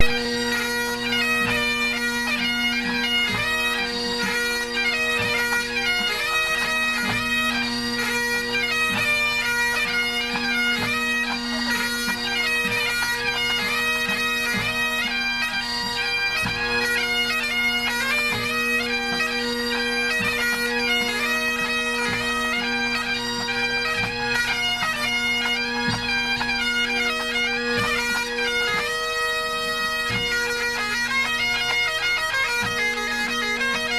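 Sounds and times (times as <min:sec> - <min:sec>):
bagpipe chanters playing melody: 0:00.0 - 0:33.9
bagpipe drones: 0:00.0 - 0:33.9.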